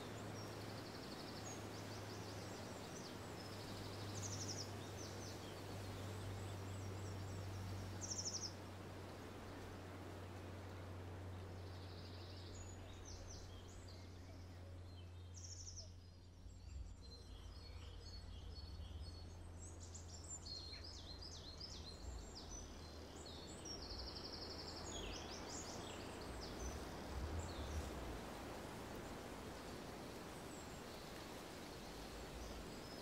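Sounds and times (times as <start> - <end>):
songbirds chirping and trilling: 0.0 - 33.0.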